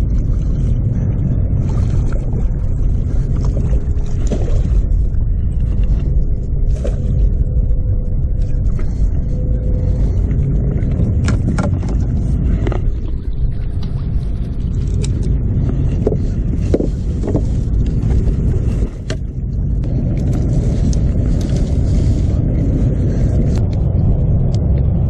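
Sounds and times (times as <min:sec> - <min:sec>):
river water: 0:00.0 - 0:24.7
wind rumble: 0:00.0 - 0:25.0.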